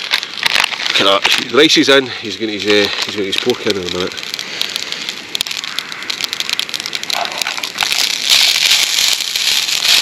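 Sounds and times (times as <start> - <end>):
rice sizzling in a pan: 0.0 - 10.0.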